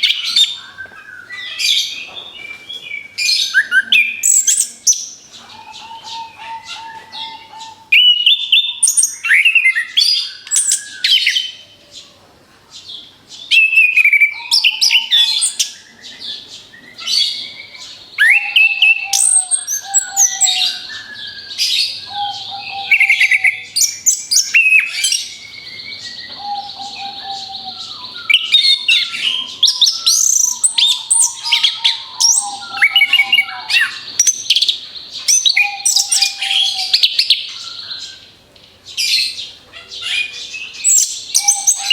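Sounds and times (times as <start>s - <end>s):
thrush singing whistles and trills: 0.0s - 11.6s, 13.5s - 38.4s, 40.2s - 41.9s.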